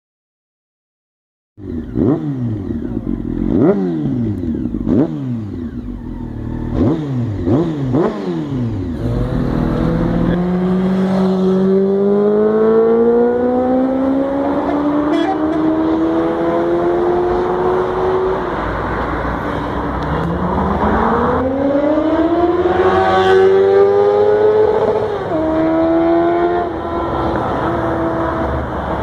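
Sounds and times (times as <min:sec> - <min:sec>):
motorcycle engine revving: 0:01.6 - 0:29.0.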